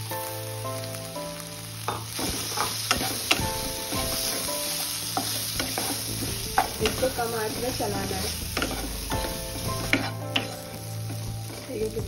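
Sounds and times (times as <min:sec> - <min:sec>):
masala sizzling in a frying pan: 0:00.0 - 0:12.0
spatula scraping a pan: 0:01.9 - 0:11.7.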